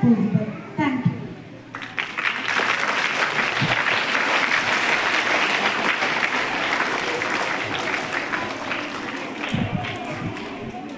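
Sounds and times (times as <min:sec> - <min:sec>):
audience applauding: 0:01.7 - 0:10.9.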